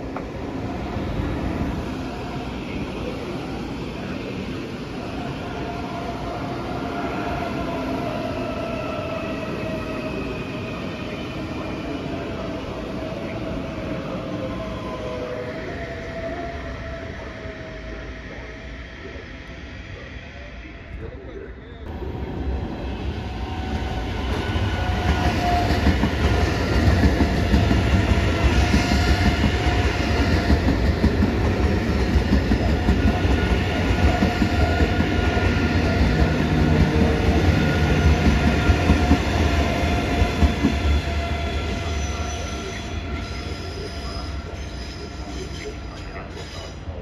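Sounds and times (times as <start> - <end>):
train wheels rumbling on rail: 0.0 - 19.2, 21.0 - 47.0
train whine: 0.0 - 47.0.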